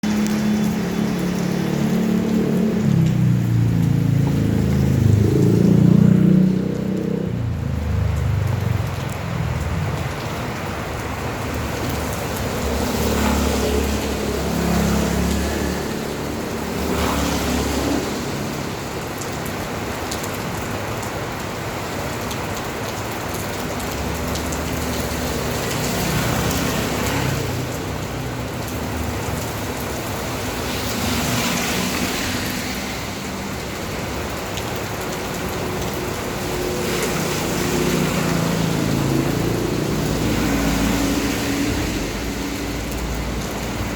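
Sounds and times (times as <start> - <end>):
steady rain: 0.0 - 43.9
traffic rumble: 0.0 - 43.9.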